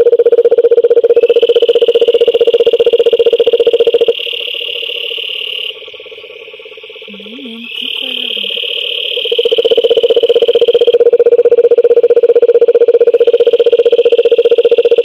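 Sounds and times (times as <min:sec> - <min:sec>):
frogs high-pitched trill: 0:00.0 - 0:15.0
toad pulsed trill: 0:00.0 - 0:15.0.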